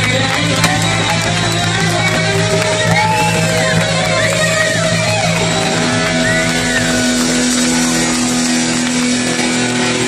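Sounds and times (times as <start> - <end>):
electric guitar: 0.0 - 10.0
live rock band playing: 0.0 - 10.0.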